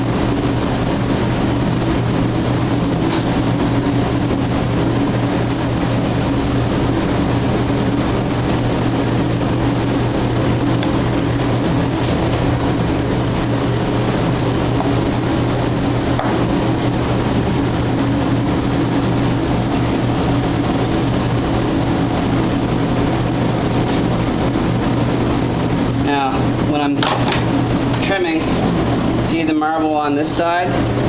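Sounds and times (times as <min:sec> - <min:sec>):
machine drone: 0:00.0 - 0:29.8.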